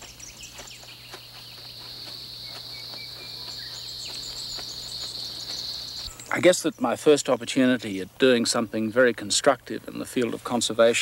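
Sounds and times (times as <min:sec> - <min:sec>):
insects droning: 0:00.0 - 0:10.9.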